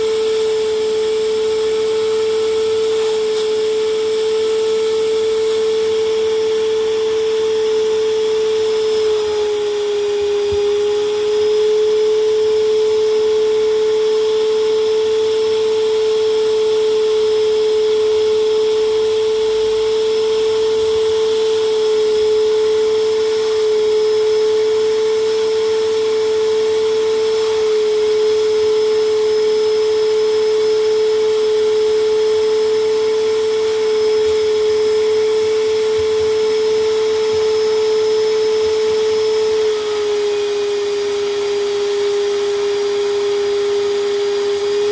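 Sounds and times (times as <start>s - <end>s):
vacuum cleaner motor whine: 0.0s - 44.9s.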